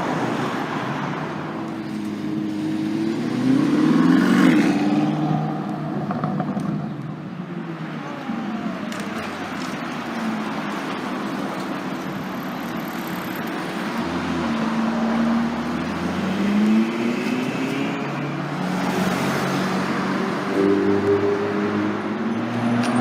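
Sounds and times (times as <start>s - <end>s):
street traffic: 0.0s - 23.0s
car accelerating: 1.8s - 7.1s, 7.7s - 23.0s.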